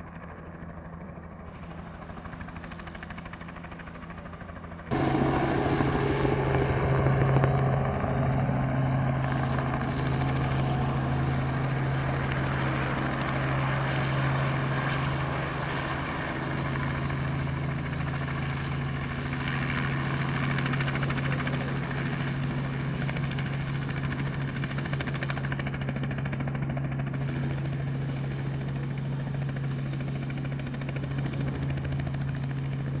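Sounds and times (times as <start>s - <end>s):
helicopter engine and rotors: 0.0s - 33.0s.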